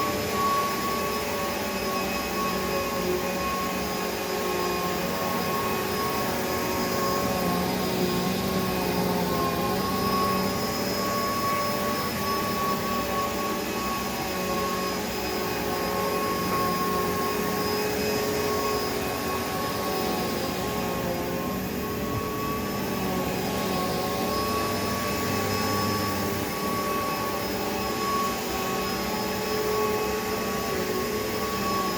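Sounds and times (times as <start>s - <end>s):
vacuum cleaner motor whining: 0.0s - 31.9s.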